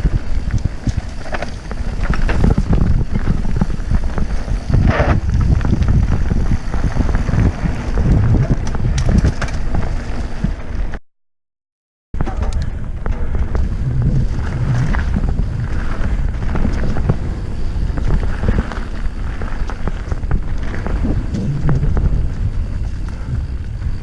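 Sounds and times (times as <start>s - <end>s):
constant rumble: 0.0s - 11.0s, 12.2s - 24.0s
wind buffeting microphone: 0.0s - 11.0s, 12.2s - 24.0s
bike rattling clicks: 0.1s - 11.0s, 12.2s - 23.8s.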